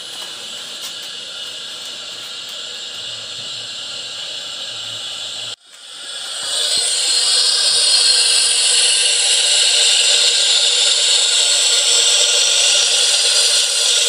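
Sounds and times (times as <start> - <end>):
turboprop engine whining: 0.0 - 14.0.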